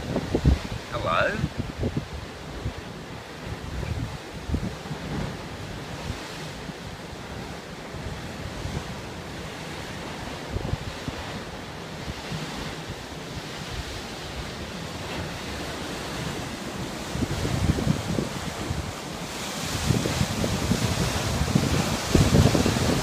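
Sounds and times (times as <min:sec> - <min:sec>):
ocean surf against cliff: 0:00.0 - 0:23.0
wind buffeting microphone: 0:00.0 - 0:23.0.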